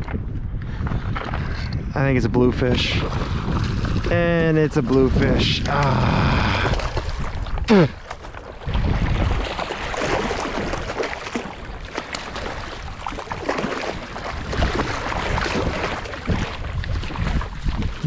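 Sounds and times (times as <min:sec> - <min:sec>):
wind rumbling on microphone: 0:00.0 - 0:18.0
fish thrashing and splashing: 0:02.9 - 0:18.0.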